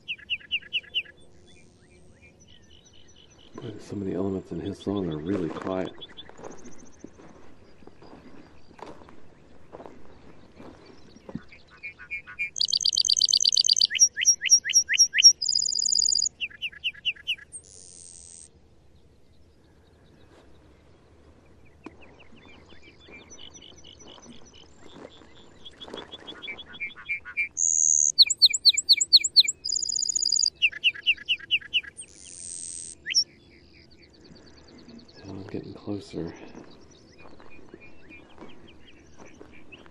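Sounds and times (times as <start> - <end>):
bird singing trills: 0.0 - 9.1, 10.6 - 18.5, 21.8 - 39.9.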